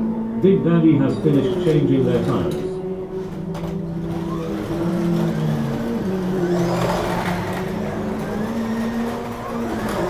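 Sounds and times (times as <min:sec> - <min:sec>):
slot car motors whining: 0:00.0 - 0:10.0.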